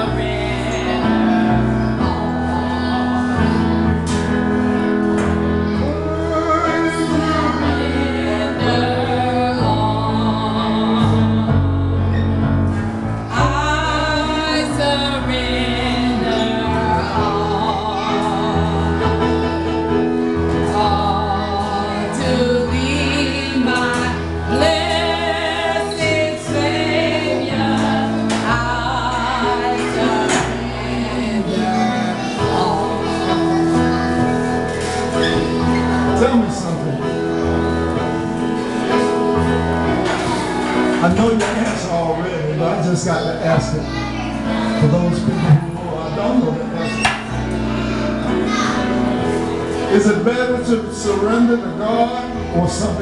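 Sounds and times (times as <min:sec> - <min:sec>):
gospel singing with instruments: 0:00.0 - 0:53.0.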